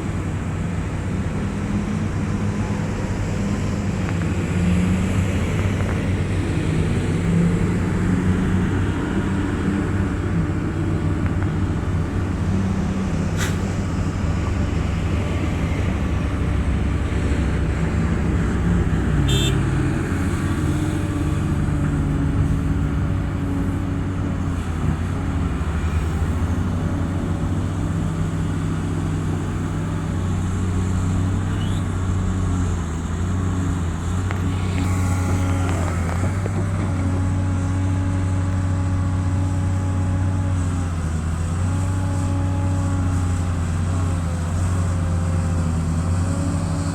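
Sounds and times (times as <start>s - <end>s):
heavy diesel engines running: 0.0s - 46.9s.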